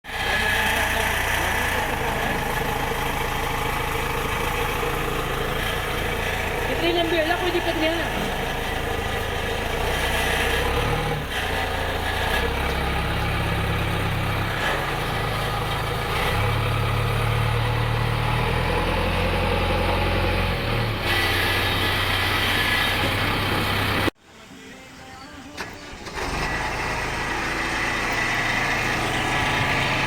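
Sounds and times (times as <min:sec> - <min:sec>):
diesel engine of heavy machinery: 0:00.0 - 0:24.2, 0:25.6 - 0:30.0.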